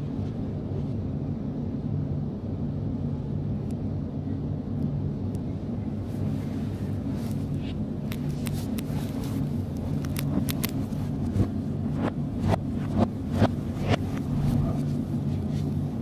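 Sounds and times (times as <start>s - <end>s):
electric train hum and rumble: 0.0s - 16.0s.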